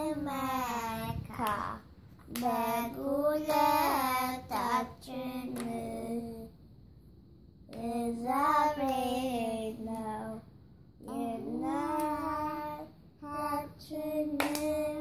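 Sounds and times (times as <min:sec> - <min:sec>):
girls singing a hymn: 0:00.0 - 0:06.6, 0:07.7 - 0:15.0.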